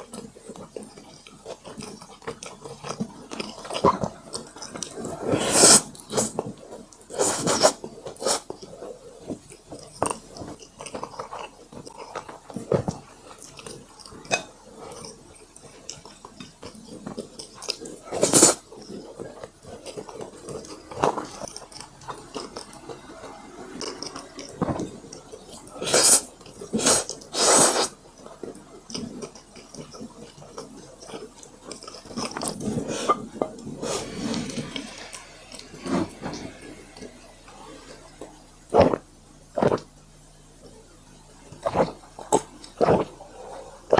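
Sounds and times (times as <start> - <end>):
wet chewing: 0.0 - 43.9.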